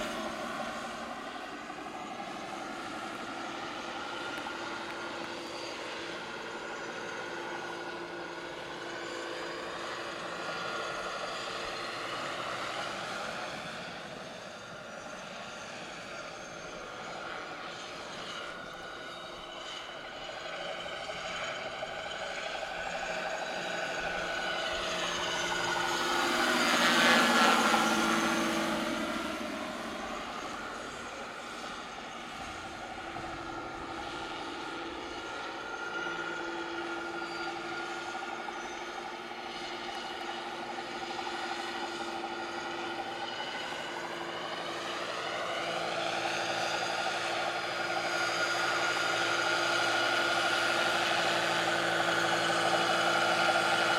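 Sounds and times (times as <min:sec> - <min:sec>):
model helicopter rotor whine: 0:00.0 - 0:53.9.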